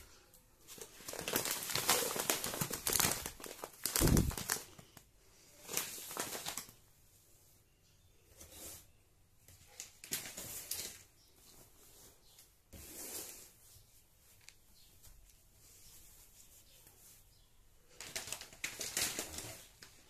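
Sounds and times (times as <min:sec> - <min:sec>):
plastic bags rustling and crinkling: 0:00.6 - 0:07.1, 0:08.4 - 0:20.0.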